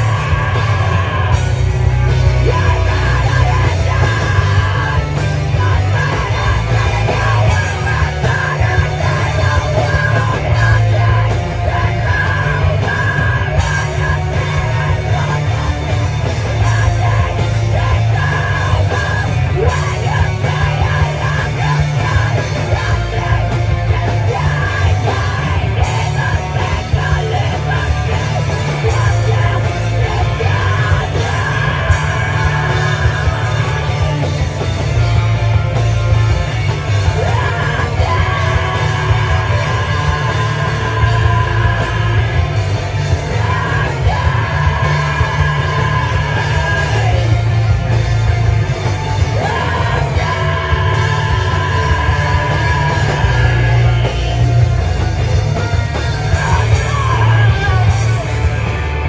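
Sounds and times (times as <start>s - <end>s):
bass guitar: 0.0s - 59.0s
drums: 0.0s - 59.0s
electric guitars: 0.0s - 59.0s.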